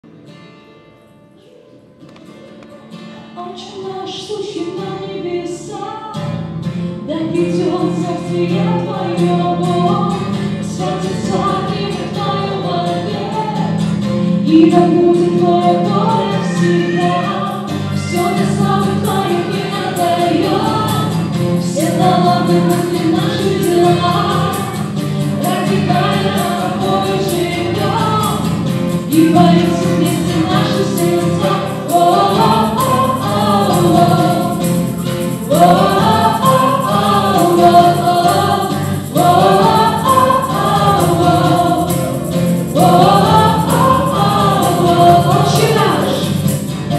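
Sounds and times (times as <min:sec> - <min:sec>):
acoustic guitar: 0:00.0 - 0:46.9
keyboard: 0:06.4 - 0:46.9
mixed voices singing together: 0:07.1 - 0:46.9.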